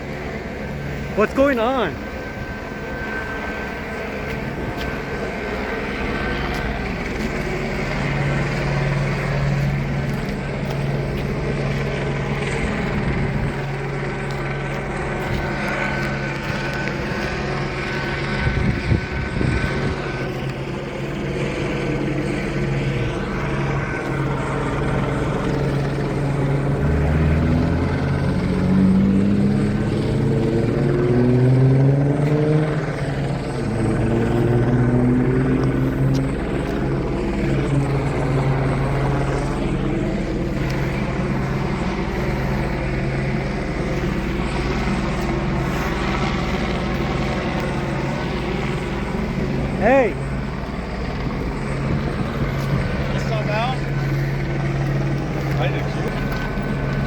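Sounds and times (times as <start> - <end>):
helicopter hovering: 0.0 - 57.0
passing vehicle engine: 3.1 - 57.0.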